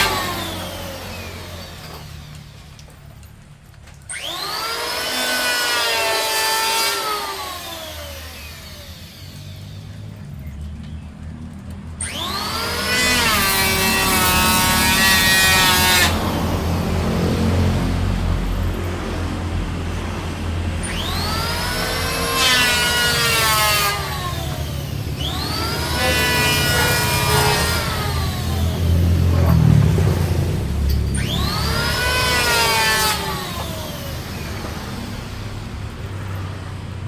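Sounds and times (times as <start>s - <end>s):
power saw cutting wood: 0.0s - 10.6s, 12.0s - 37.0s.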